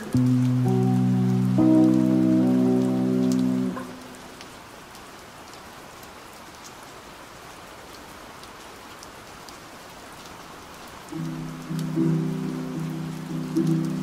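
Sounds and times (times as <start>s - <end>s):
raindrops ticking: 0.0s - 14.0s
steady rain hiss: 0.0s - 14.0s.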